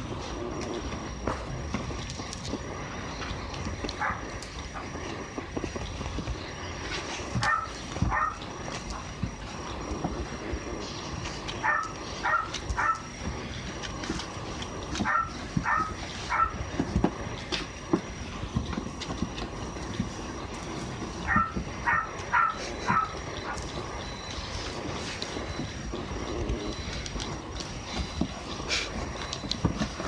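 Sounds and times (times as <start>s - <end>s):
faint high whine: 0.0s - 30.0s.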